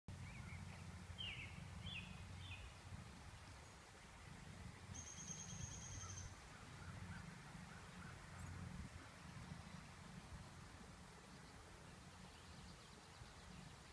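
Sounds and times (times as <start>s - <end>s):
birds chirping: 0.1s - 13.9s
low steady rumble: 0.1s - 13.9s.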